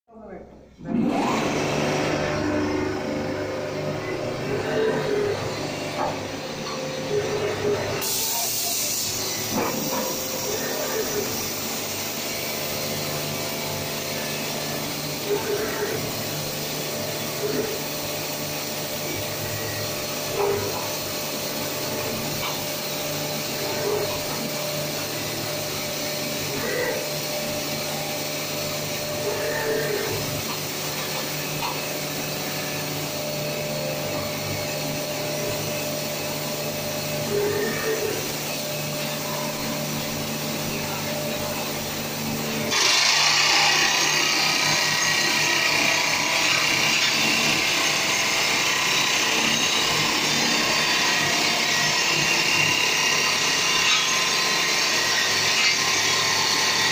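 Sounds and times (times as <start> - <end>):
drill rig mechanical hum: 0.1 - 56.9.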